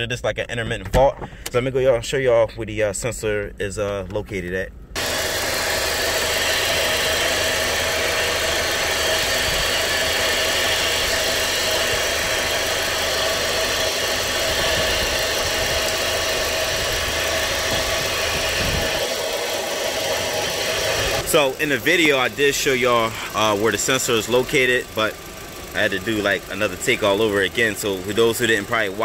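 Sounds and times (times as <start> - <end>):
car engine idling: 2.7 - 29.0.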